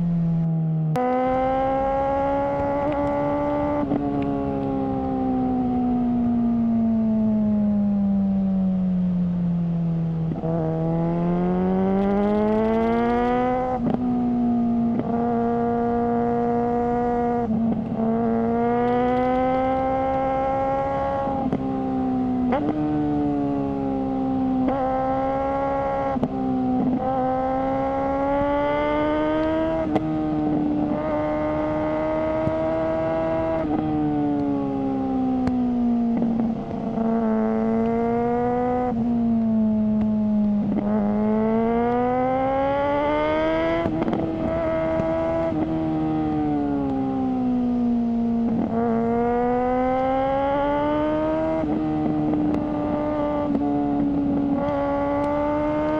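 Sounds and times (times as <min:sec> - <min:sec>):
motorcycle engine revving through gears: 0:00.0 - 0:55.9.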